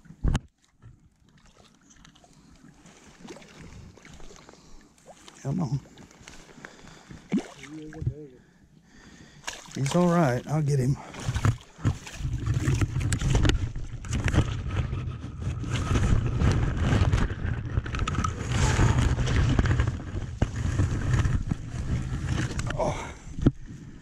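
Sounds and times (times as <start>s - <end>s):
wind and handling rumble: 3.6s - 24.0s.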